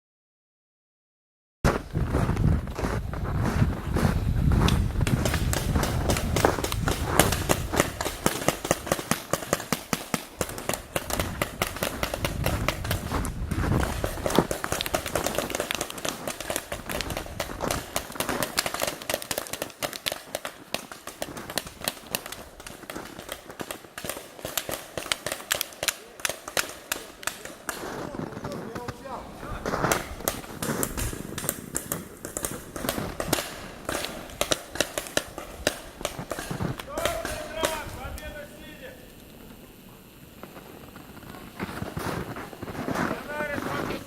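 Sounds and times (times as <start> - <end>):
sharp pops and clicks: 1.7 - 44.0.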